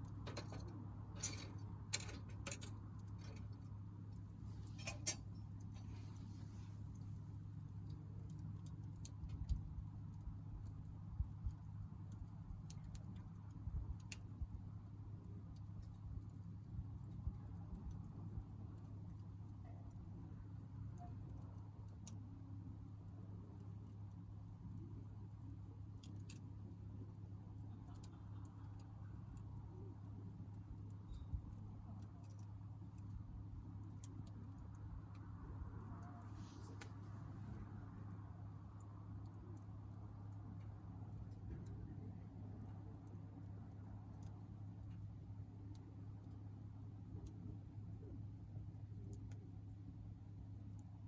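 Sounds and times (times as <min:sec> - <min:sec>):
low steady rumble: 0:00.0 - 0:51.0
wood fire crackling: 0:00.0 - 0:51.0.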